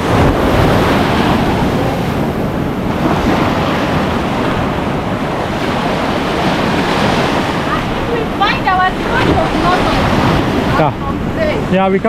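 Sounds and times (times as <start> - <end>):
heavy surf breaking on rocks: 0.0 - 12.0
wind buffeting microphone: 0.0 - 12.0.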